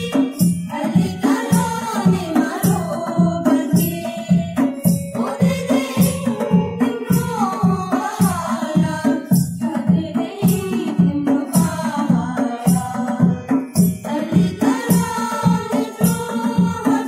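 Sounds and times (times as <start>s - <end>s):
girls singing together: 0.0s - 17.0s
harmonium: 0.0s - 17.0s
tabla beat: 0.0s - 17.0s.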